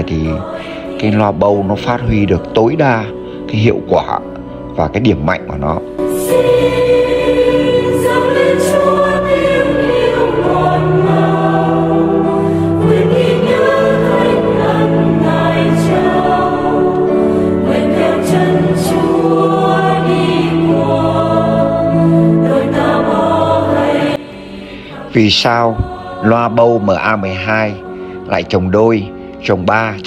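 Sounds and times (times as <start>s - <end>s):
choir singing a hymn: 0.0s - 30.0s.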